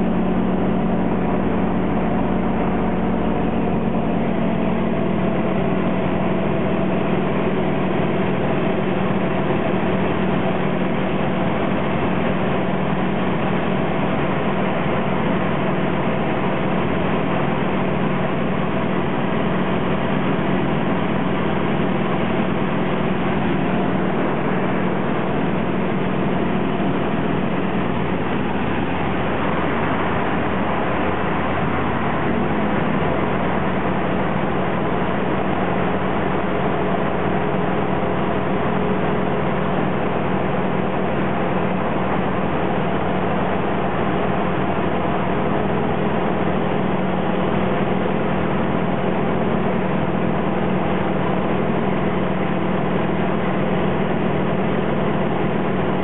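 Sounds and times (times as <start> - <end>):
airflow rushing over canopy: 0.0 - 56.0
radial aircraft engine running: 0.0 - 56.0.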